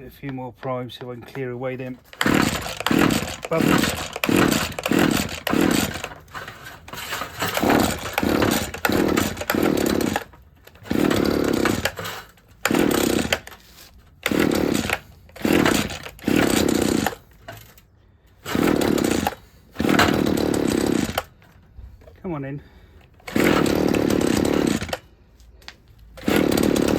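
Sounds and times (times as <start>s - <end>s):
hedge trimmer engine cranking: 0.0s - 26.9s.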